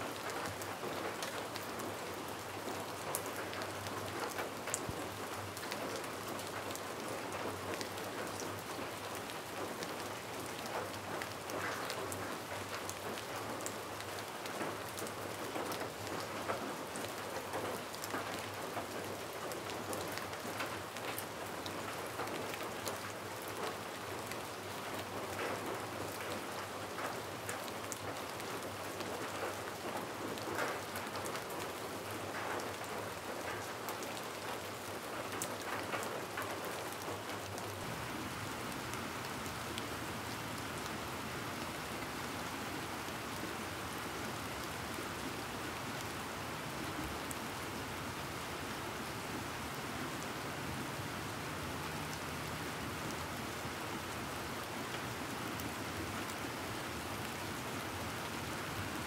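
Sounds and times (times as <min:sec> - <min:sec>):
rain patter: 0:00.0 - 0:59.0.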